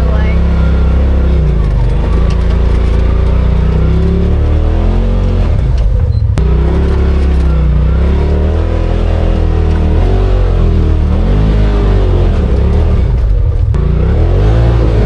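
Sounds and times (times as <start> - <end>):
utility vehicle engine revving: 0.0 - 15.0.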